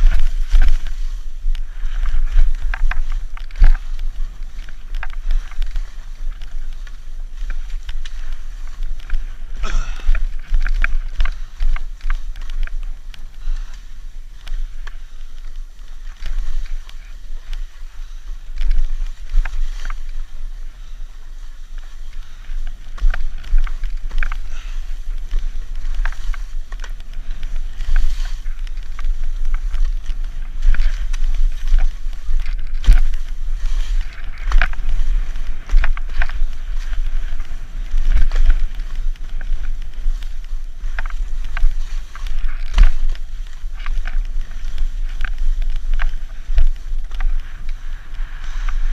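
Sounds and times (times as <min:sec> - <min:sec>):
skis carving through snow: 0:00.0 - 0:48.9
wind buffeting microphone: 0:00.0 - 0:48.9.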